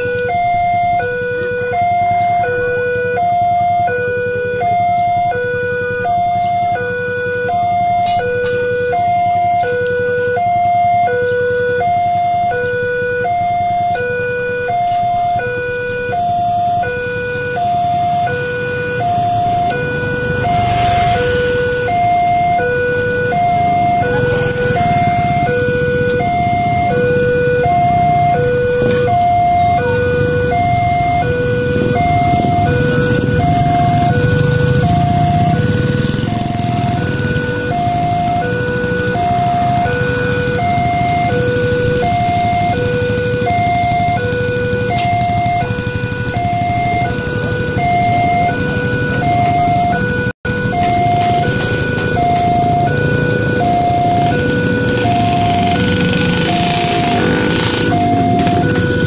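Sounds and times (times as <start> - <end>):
level crossing alarm alternating tones: 0.0 - 59.0.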